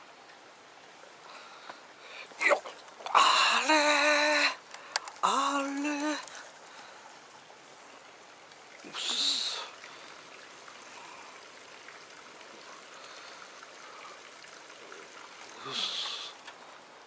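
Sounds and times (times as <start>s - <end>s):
stream running water: 0.0s - 17.0s.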